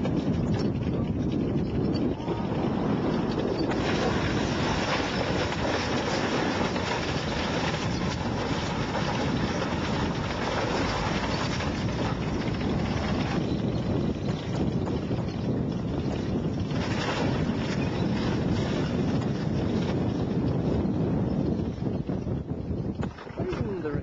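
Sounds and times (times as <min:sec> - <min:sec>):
tank engine and tracks: 0:00.0 - 0:20.8
wind noise on microphone: 0:00.0 - 0:24.0.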